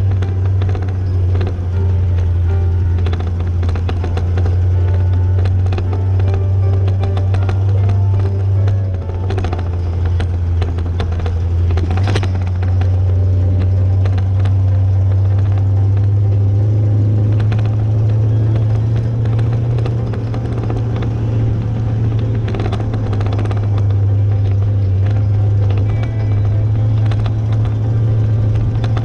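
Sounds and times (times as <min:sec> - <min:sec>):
pickup engine rumble: 0:00.0 - 0:29.0
rattles and clunks: 0:00.0 - 0:29.0.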